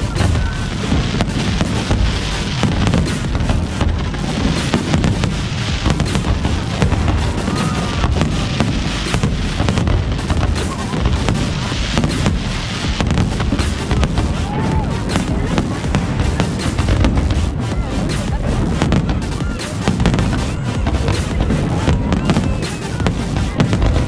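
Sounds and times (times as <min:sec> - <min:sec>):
low rumble: 0:00.0 - 0:19.4
fireworks bangs and crackling: 0:00.0 - 0:24.0
music playing: 0:00.0 - 0:24.0.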